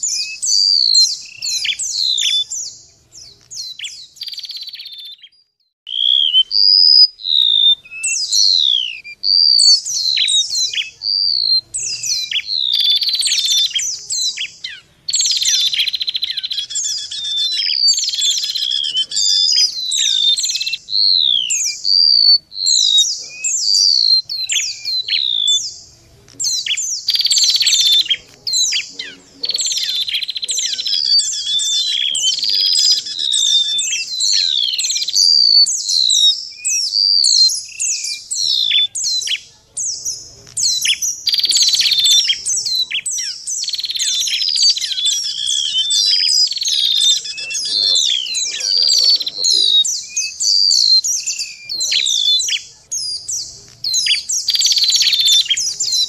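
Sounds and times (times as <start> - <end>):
buzzy bird chattering: 0.0 - 56.0.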